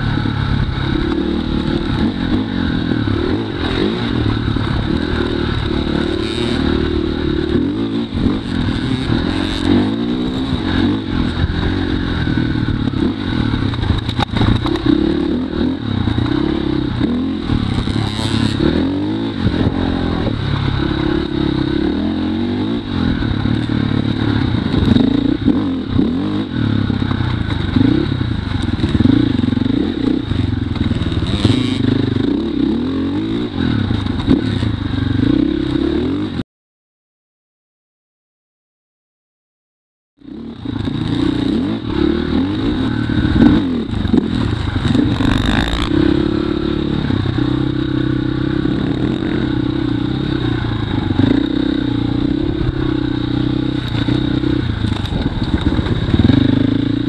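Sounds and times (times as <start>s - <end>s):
dirt bike engine revving: 0.0s - 36.4s, 40.2s - 57.0s.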